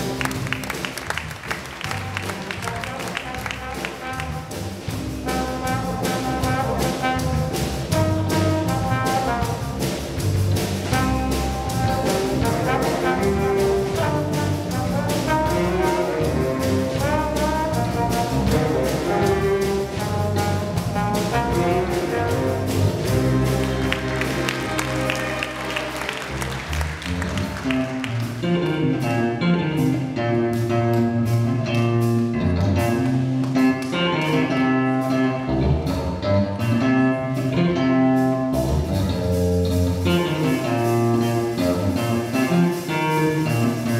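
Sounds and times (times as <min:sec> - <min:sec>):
trombone lead line: 0:00.0 - 0:33.0, 0:38.0 - 0:43.9
steady drum beat: 0:00.0 - 0:34.1, 0:38.4 - 0:43.9
jazz band playing: 0:00.0 - 0:43.9.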